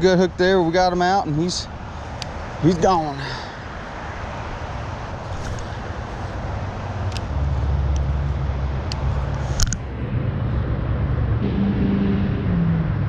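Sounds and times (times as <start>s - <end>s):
vehicle engine rumbling by: 1.6s - 13.0s.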